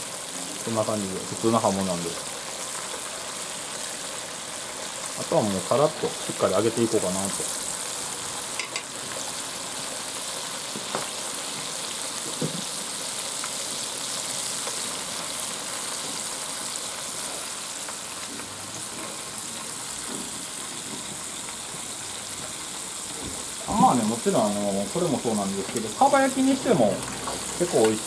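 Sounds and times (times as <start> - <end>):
fish deep-frying in oil: 0.0 - 28.0.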